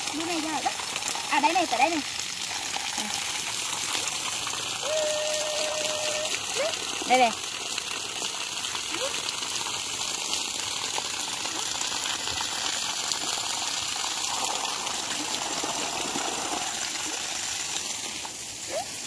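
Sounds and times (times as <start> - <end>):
water gushing from hose: 0.0 - 19.0.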